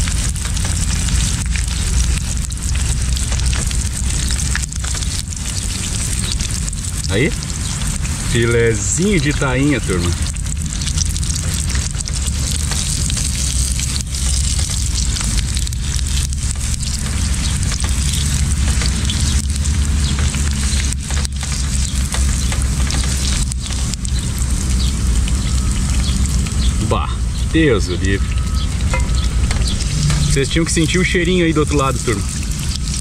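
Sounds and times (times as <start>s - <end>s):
fish frying in hot oil: 0.0s - 33.0s
low steady rumble: 0.0s - 33.0s.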